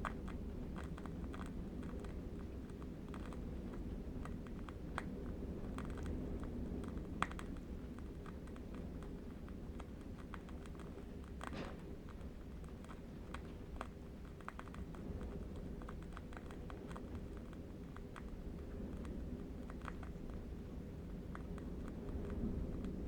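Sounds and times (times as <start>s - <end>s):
low wind rumble: 0.0s - 23.0s.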